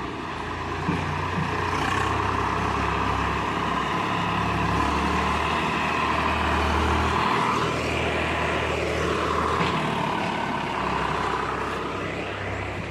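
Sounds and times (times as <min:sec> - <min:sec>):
heavy machinery diesel engine: 0:00.0 - 0:12.9.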